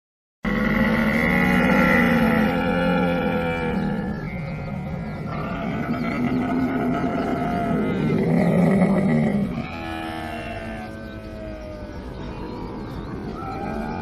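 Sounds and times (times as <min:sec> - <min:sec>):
camel calling: 0:00.5 - 0:14.0.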